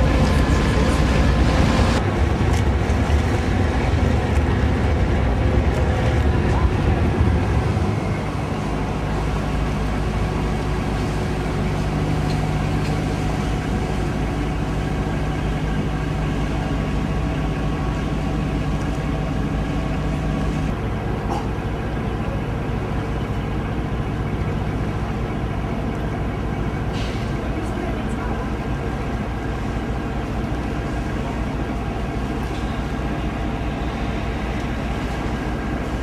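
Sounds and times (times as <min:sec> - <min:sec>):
ferry engine low rumble: 0:00.0 - 0:36.0
steady engine hum: 0:00.0 - 0:36.0.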